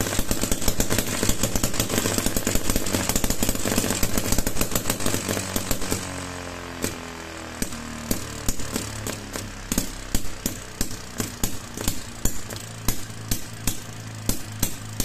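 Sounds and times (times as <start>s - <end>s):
small two-stroke engine running: 0.0s - 15.0s.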